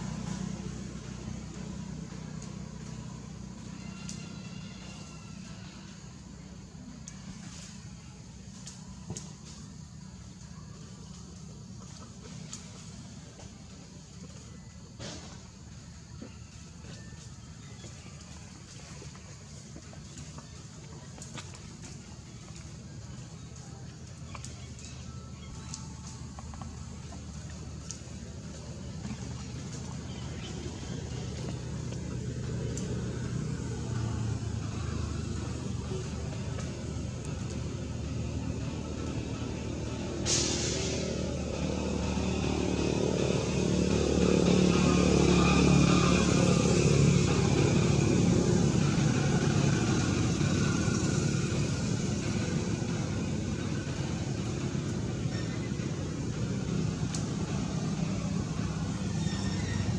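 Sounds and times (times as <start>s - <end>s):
motor vehicle running: 0.0s - 59.9s.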